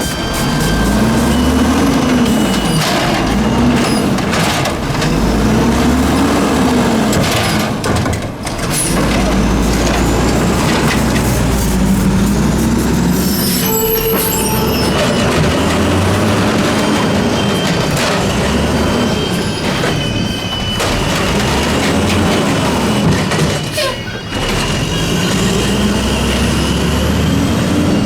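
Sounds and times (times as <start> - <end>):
garbage truck engine revving: 0.0 - 20.0, 20.8 - 28.0.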